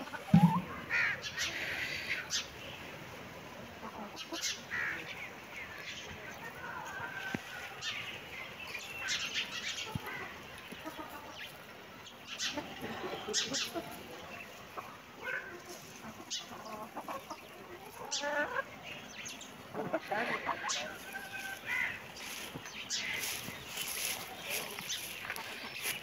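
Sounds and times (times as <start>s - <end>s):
hens clucking: 0.0s - 2.6s, 3.5s - 5.2s, 8.7s - 26.0s.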